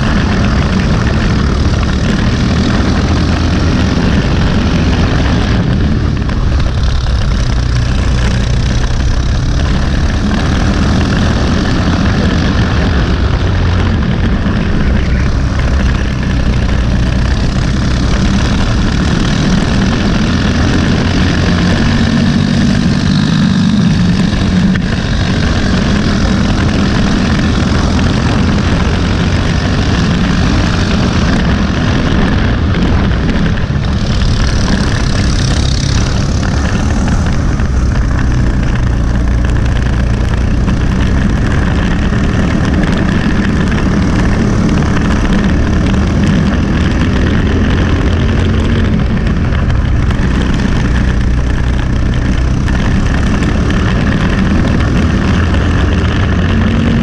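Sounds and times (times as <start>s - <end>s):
kart engine running hard: 0.0s - 57.0s.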